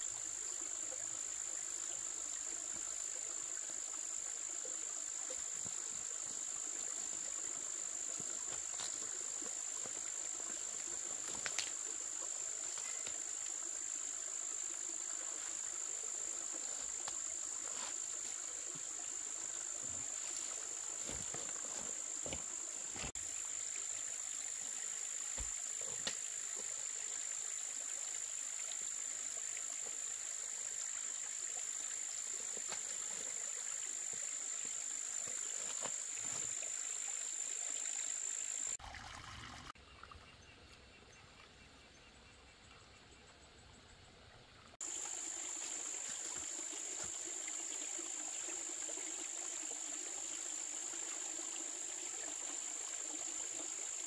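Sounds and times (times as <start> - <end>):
insects droning: 0.0 - 38.8, 41.7 - 54.0.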